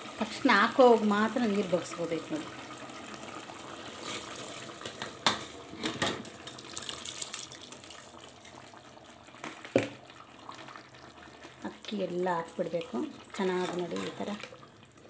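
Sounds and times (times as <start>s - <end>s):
rice and water pouring: 0.0s - 15.0s.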